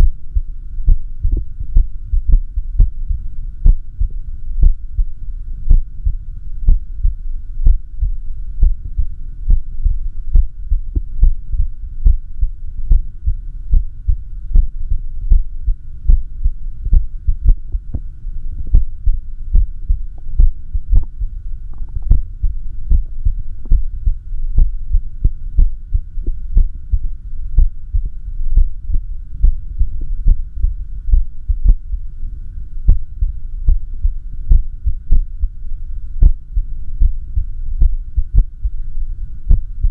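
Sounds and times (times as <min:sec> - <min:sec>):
irregular heartbeat thuds: 0:00.0 - 0:32.0, 0:32.8 - 0:35.6, 0:36.2 - 0:38.9, 0:39.5 - 0:39.9
steady low hum: 0:00.0 - 0:39.9.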